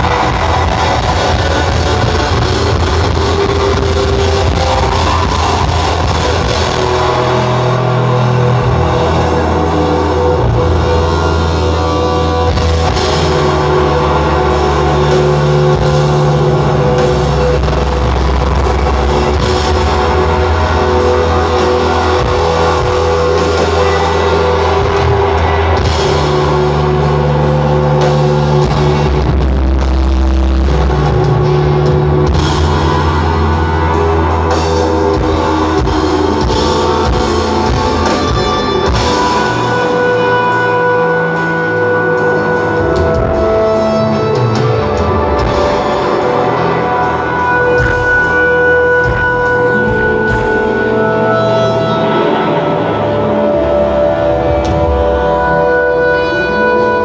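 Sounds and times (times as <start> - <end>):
bass notes: 0.0 - 57.0
drums: 0.0 - 57.0
electric guitars: 0.0 - 57.0.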